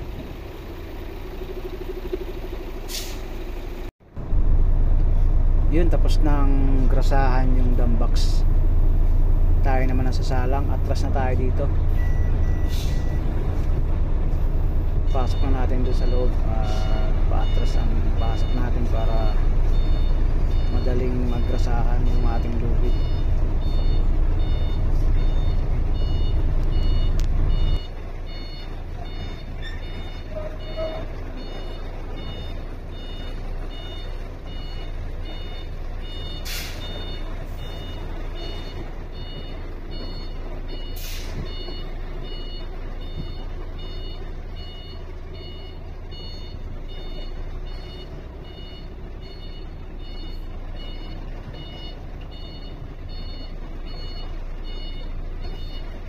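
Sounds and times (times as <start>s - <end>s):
truck reversing alarm beeping: 0.0s - 4.6s, 5.2s - 56.0s
diesel engine running: 0.0s - 56.0s.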